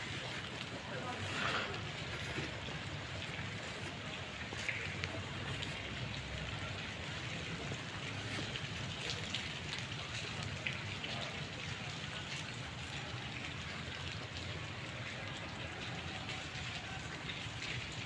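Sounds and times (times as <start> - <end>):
light rain falling: 0.0 - 18.0
raindrops ticking: 0.0 - 18.0.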